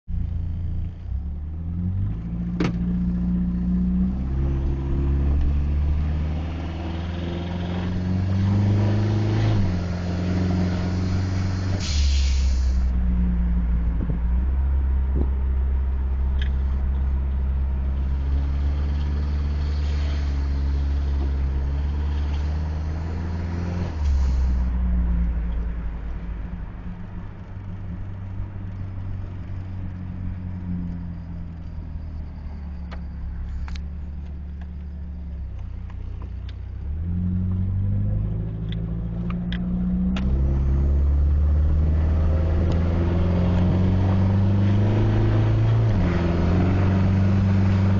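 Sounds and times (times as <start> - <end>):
car engine from inside cabin: 0.1 - 12.0, 12.8 - 47.9.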